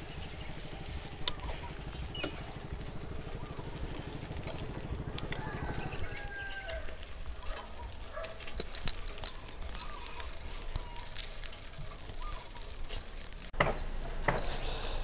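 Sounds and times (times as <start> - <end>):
bicycle tyres crunching on gravel: 0.0 - 15.0
bike rattling: 0.0 - 15.0.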